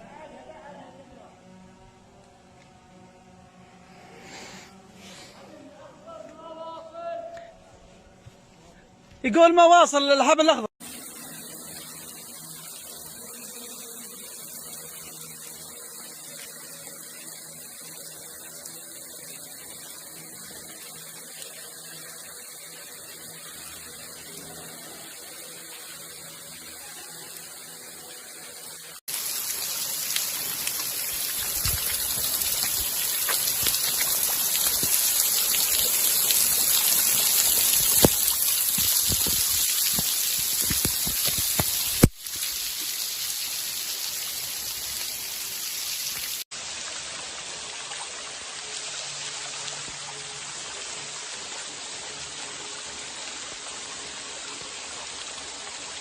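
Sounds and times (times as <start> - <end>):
running or splashing water: 10.8 - 56.0.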